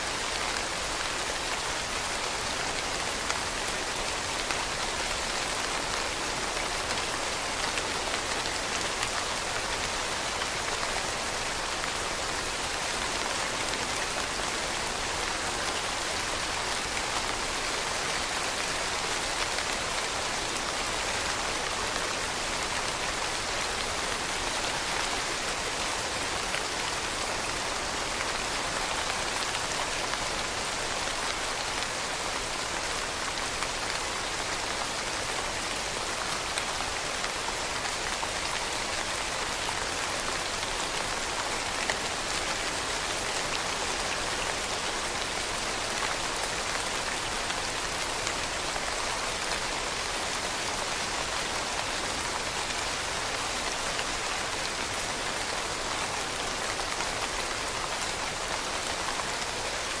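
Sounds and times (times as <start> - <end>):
rain falling on leaves: 0.0 - 60.0.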